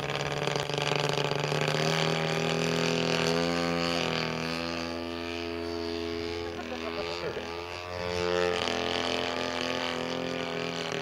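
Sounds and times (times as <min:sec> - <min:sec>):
model plane engine and propeller: 0:00.0 - 0:11.0.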